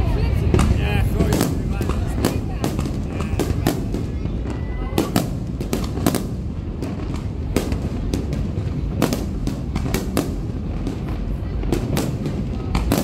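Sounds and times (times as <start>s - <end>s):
steady low rumble: 0.0s - 13.0s
sharp bangs and crackles: 0.1s - 13.0s
firework shells bursting: 0.6s - 13.0s.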